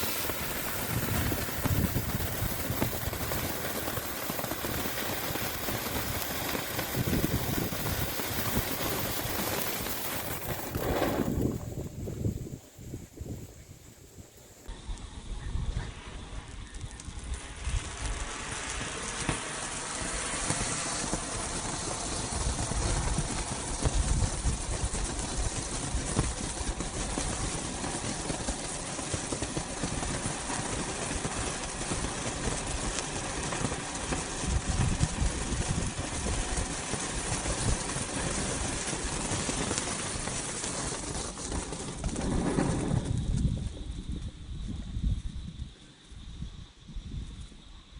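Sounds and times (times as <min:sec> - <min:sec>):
fountain firework hissing and crackling: 0:00.0 - 0:47.9.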